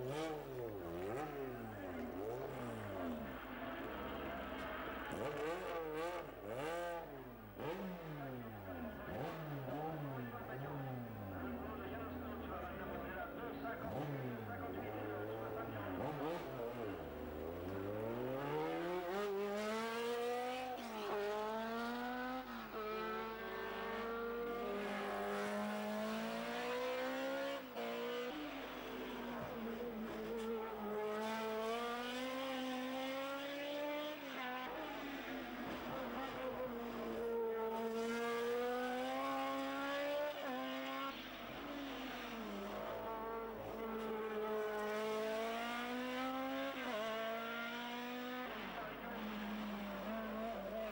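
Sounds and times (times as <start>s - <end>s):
racing car engines at full throttle: 0.0s - 50.9s.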